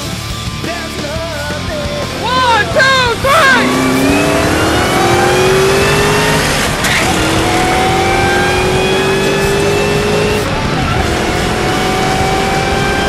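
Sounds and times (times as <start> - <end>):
car engine accelerating: 1.6 - 13.0.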